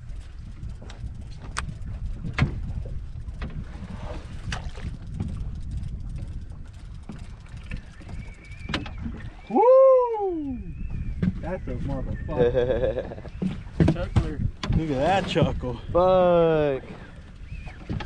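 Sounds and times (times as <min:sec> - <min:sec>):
water noise around boat: 0:00.0 - 0:18.0
wind: 0:00.0 - 0:18.0.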